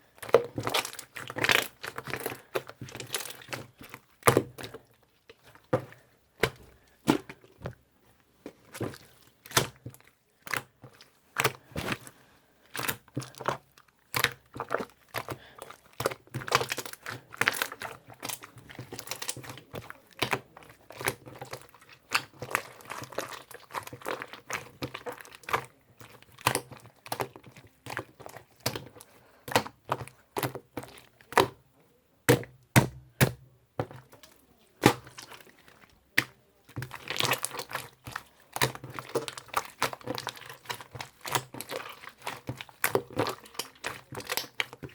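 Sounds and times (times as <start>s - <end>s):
crinkling: 0.0s - 31.6s, 33.8s - 44.9s.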